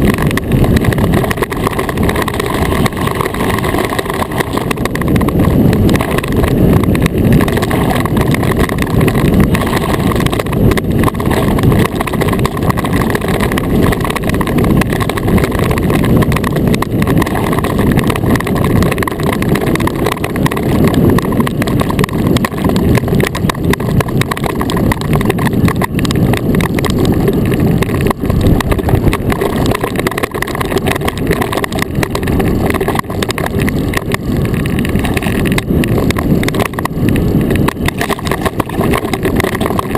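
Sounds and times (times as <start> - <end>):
iceboat runners rumbling on ice: 0.0 - 39.9.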